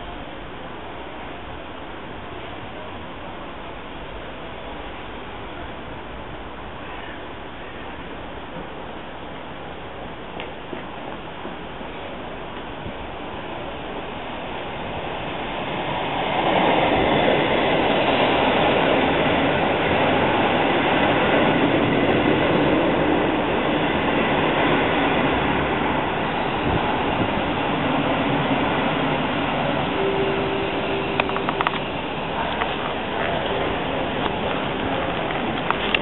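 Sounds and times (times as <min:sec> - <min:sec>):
steady whine: 0:00.0 - 0:36.0
train passing rumble: 0:00.0 - 0:36.0.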